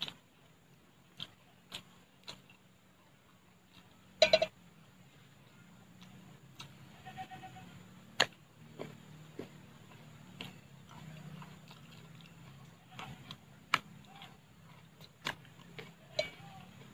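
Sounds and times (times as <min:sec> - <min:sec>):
person chewing coconut: 0:00.0 - 0:16.9.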